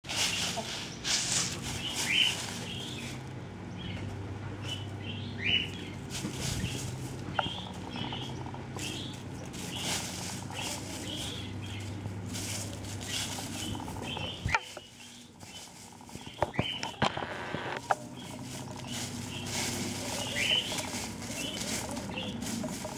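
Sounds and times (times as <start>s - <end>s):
dry leaves rustling and crackling: 0.0s - 22.9s
hens chirping: 0.0s - 22.9s.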